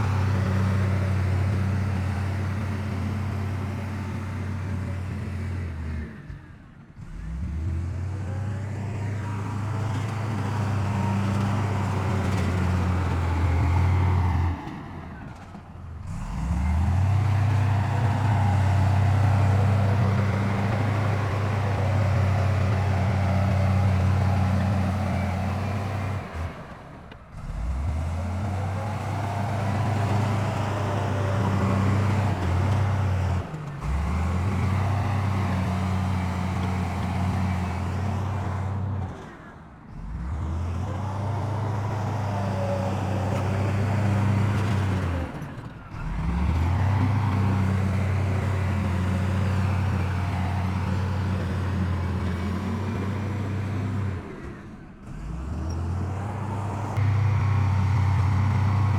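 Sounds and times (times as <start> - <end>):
heavy diesel engines humming: 0.0 - 58.9.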